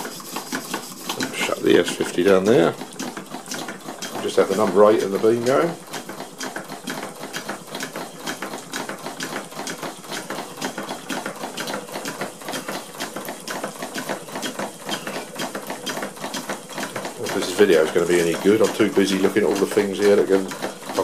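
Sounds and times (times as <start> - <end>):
model steam engines ticking clatter: 0.0 - 21.0.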